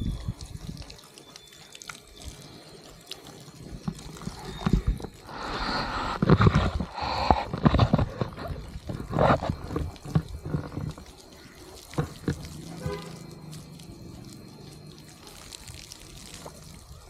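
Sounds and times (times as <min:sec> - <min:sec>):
water splashing from hose: 0:00.0 - 0:17.0.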